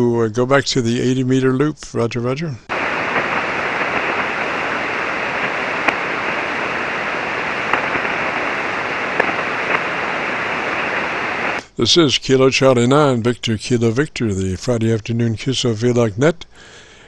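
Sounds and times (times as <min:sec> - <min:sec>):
faint static crackles: 0:00.6 - 0:17.0
radio band noise hiss: 0:01.9 - 0:16.8.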